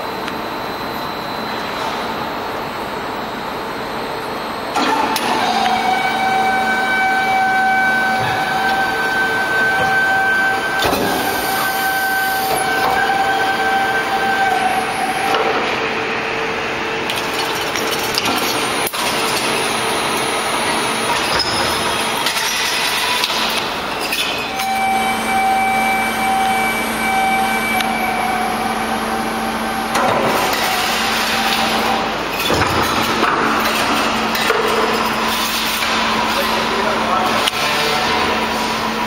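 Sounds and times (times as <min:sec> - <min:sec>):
motor hums and whines: 0:00.0 - 0:39.0.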